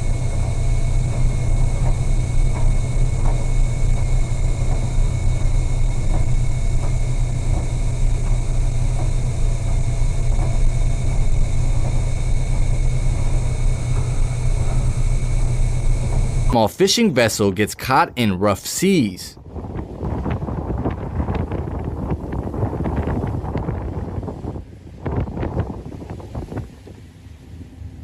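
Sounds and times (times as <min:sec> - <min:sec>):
ship engines rumbling: 0:00.0 - 0:28.0
thin constant whine: 0:00.0 - 0:28.0.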